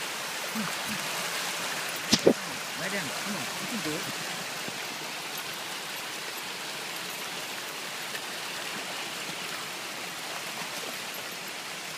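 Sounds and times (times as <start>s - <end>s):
water rushing over rock: 0.0s - 11.9s.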